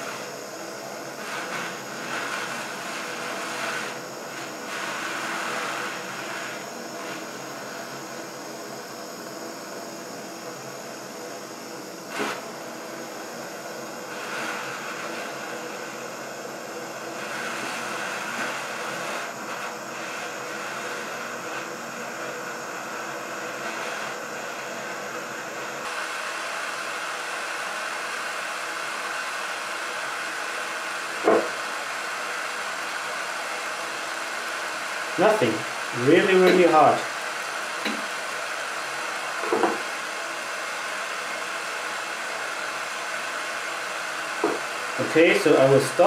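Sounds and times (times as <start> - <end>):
gas torch hissing: 0.0 - 46.0.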